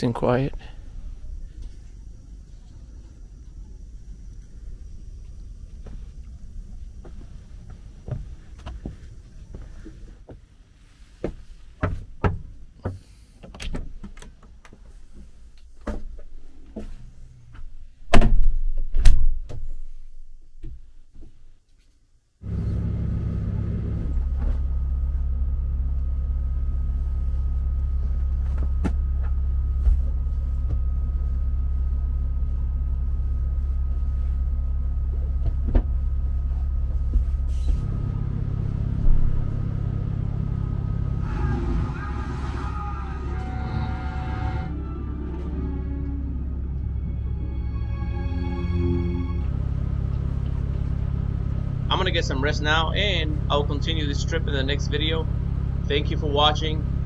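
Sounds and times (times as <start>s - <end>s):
low machine hum: 0.0s - 21.5s, 22.2s - 57.0s.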